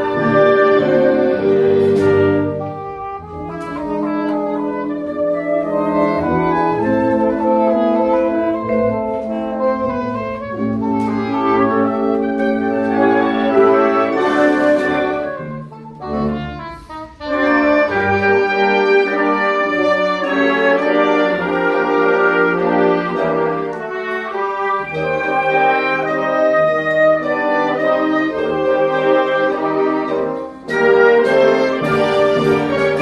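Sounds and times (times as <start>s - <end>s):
wind band playing sustained chords: 0.0s - 33.0s.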